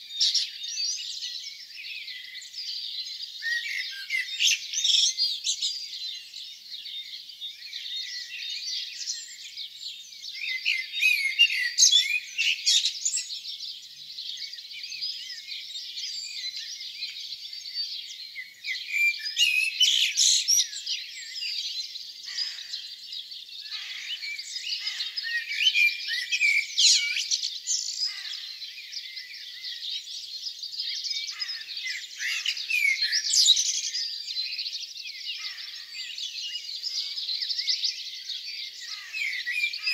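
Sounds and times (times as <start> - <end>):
many songbirds singing: 0.0 - 39.9.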